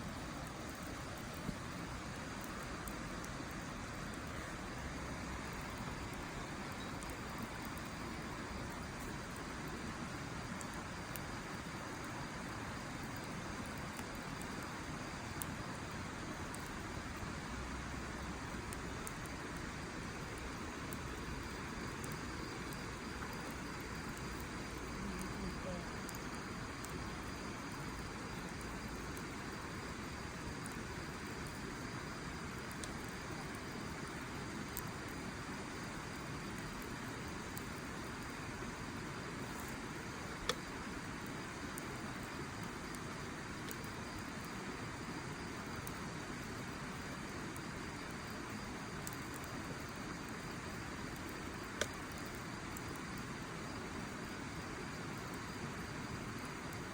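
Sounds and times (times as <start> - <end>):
faint fire crackles: 0.0 - 56.9.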